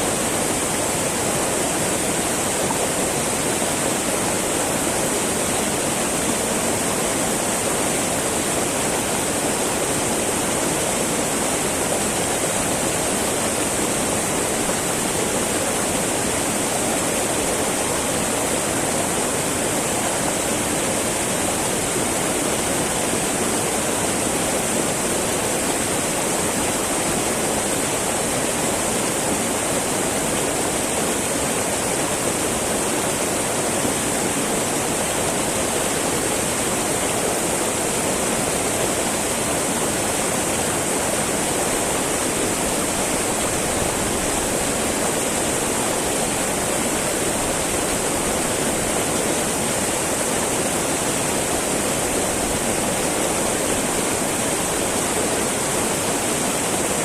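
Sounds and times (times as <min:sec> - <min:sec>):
river babbling over rocks: 0:00.0 - 0:57.0.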